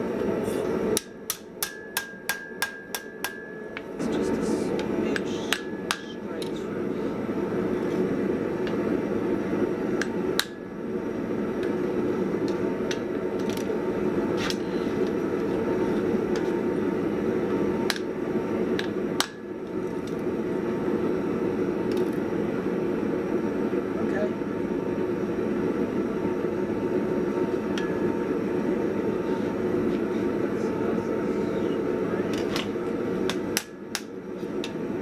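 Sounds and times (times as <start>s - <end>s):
forge air blower rushing: 0.0s - 35.0s.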